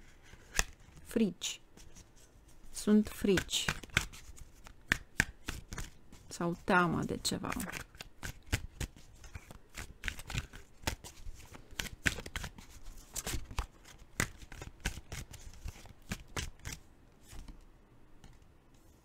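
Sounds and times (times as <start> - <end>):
cards being shuffled: 0.2 - 1.1, 1.8 - 19.0.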